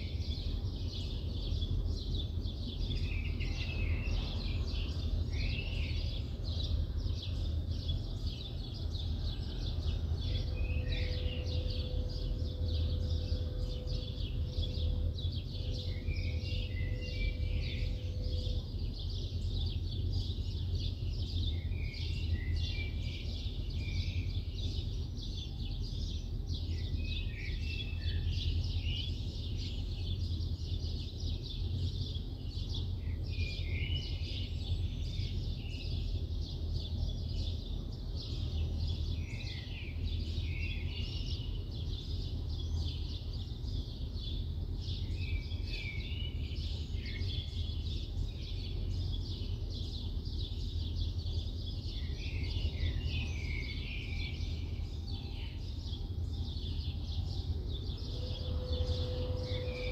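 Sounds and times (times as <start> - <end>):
distant city traffic rumble: 0.0 - 59.9
faint steady hum: 0.0 - 59.9
small birds chirping: 0.0 - 59.9.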